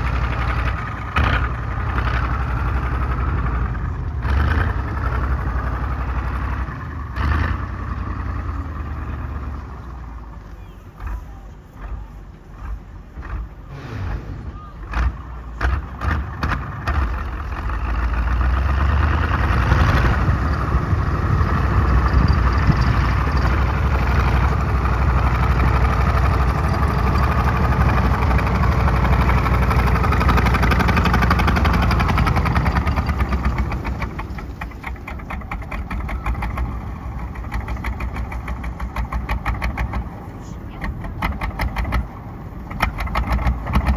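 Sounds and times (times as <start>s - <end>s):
diesel tank engine revving: 0.0s - 43.9s.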